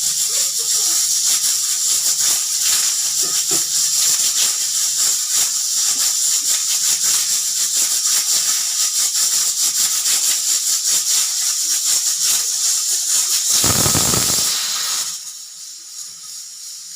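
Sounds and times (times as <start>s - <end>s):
pressure cooker whistle hissing: 0.0s - 16.9s.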